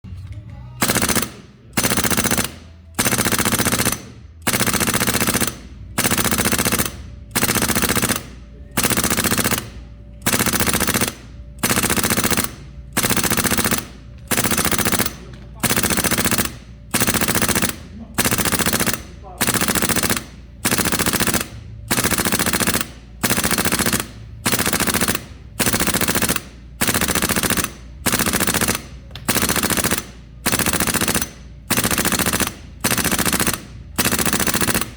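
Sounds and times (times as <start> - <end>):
airsoft rifle full-auto bursts: 0.8 - 34.9.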